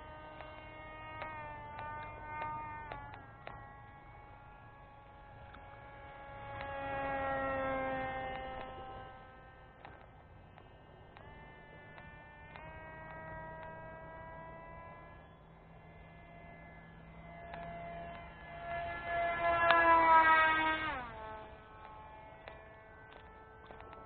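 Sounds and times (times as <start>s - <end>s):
model plane propeller motor whining: 0.0s - 24.0s.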